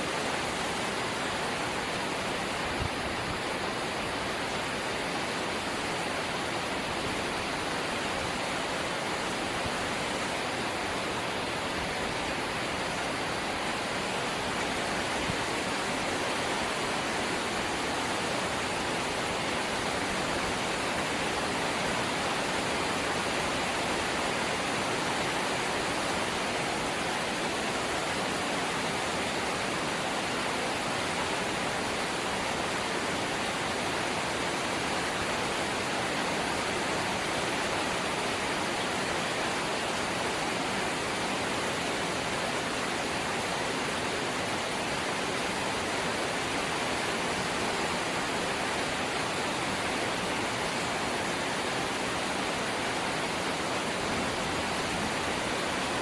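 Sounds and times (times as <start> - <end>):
light rain hissing: 0.0 - 56.0.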